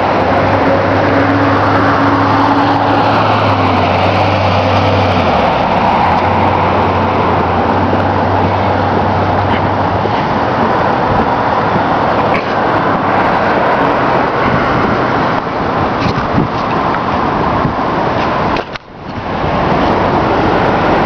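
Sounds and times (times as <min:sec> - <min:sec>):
low engine hum: 0:00.0 - 0:21.0
passing cars: 0:00.0 - 0:21.0.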